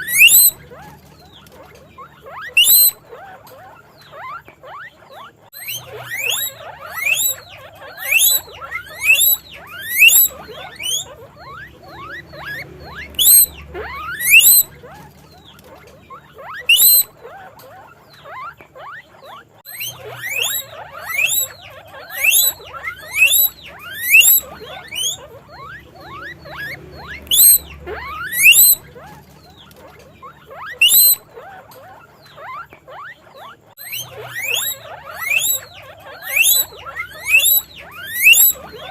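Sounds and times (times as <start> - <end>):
guinea pig squealing: 0.0 - 38.9.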